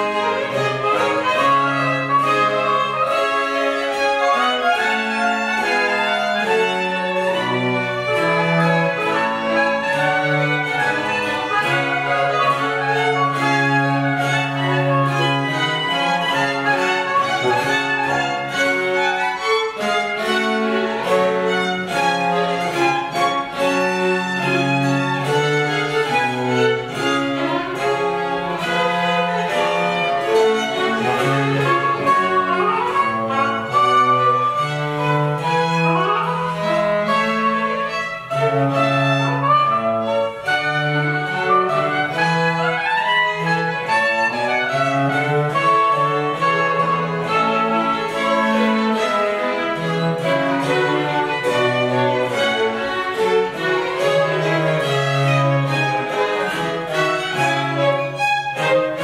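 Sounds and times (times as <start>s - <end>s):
recorder melody: 0.0s - 59.0s
violins bowing: 0.0s - 59.0s.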